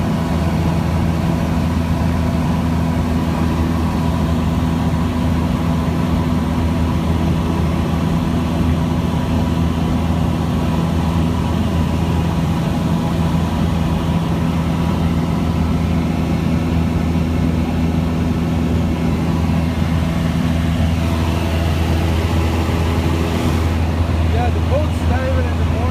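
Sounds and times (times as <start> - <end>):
airplane engine and propeller droning: 0.0 - 25.9.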